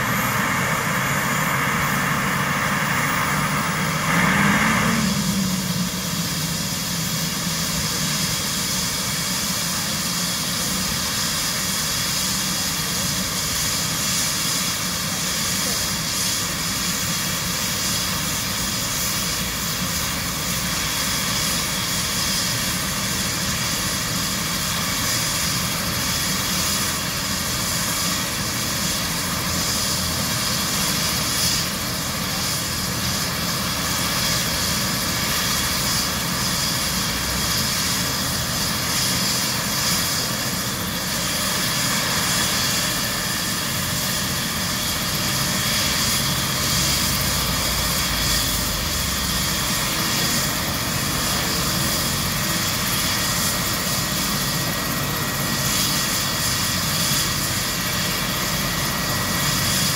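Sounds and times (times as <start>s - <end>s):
helicopter turbine whine: 0.0s - 59.9s.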